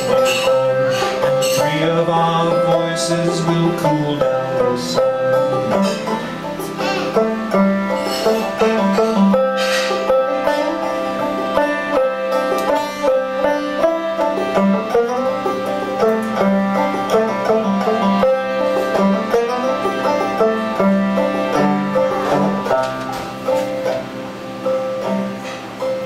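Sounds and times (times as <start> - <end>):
banjo picking: 0.0 - 26.0
harmonium chords: 0.0 - 26.0.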